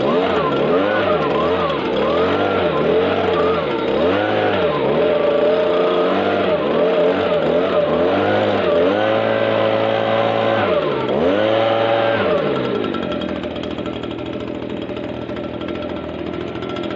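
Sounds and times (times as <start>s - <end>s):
leaf blower engine revving: 0.0s - 16.9s.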